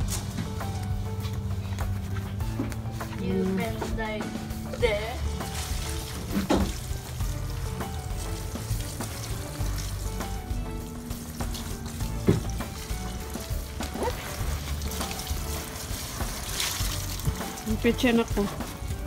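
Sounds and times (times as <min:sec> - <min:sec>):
water sprinkling onto leaves: 0:00.0 - 0:01.3, 0:02.9 - 0:19.0
background music: 0:00.0 - 0:19.0.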